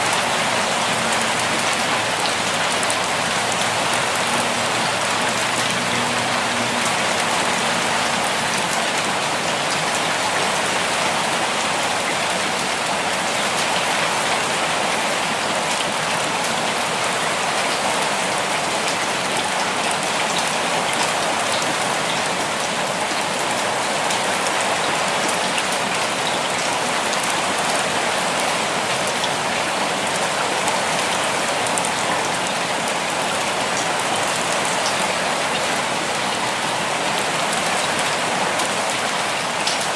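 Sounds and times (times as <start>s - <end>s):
raindrops pattering on surfaces: 0.0s - 39.9s
steady rain: 0.0s - 39.9s.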